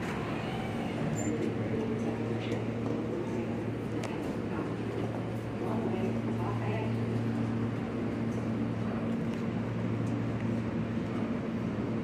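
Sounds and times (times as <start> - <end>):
subway train humming: 0.0 - 12.0.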